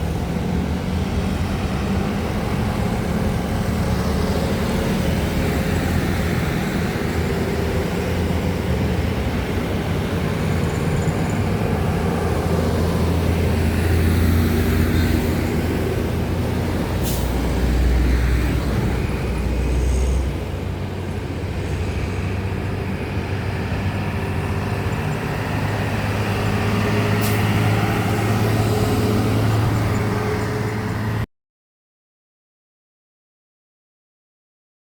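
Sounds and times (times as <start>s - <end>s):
diesel trucks and buses driving: 0.0s - 31.3s.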